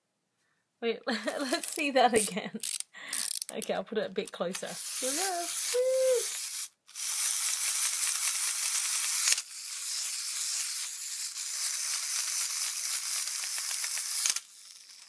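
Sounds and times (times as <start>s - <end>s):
wind-up toy whirring and ticking: 1.4s - 15.0s.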